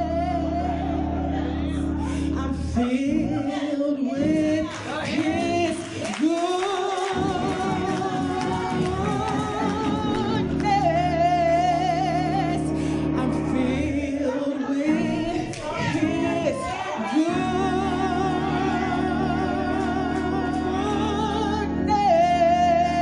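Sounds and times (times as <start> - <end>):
low musical accompaniment: 0.0 - 23.0
woman singing a hymn: 0.0 - 23.0.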